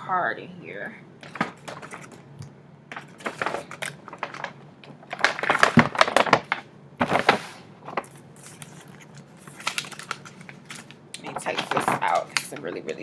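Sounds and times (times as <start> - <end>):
paper packaging rustling and crinkling: 1.2 - 2.3, 2.9 - 13.0.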